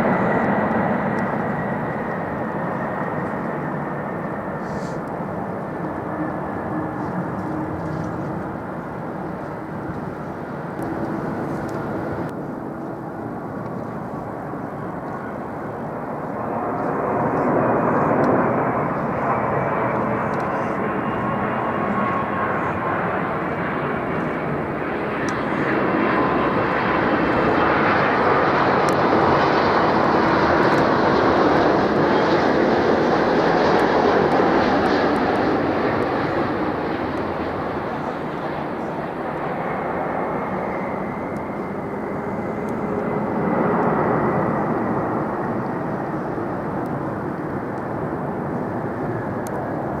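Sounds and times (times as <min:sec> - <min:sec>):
jet airliner engine rushing: 0:00.0 - 0:50.0.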